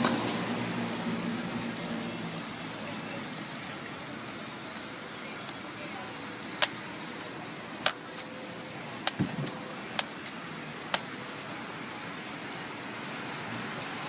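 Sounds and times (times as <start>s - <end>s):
street background noise: 0.0s - 14.0s.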